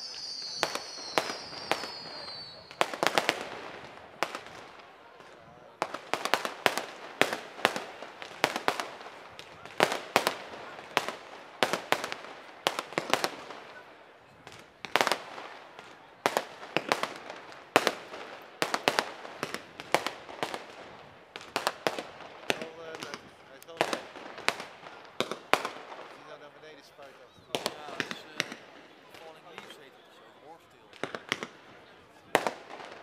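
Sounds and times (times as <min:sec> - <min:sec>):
fireworks bursting: 0:00.0 - 0:30.0, 0:30.9 - 0:33.0.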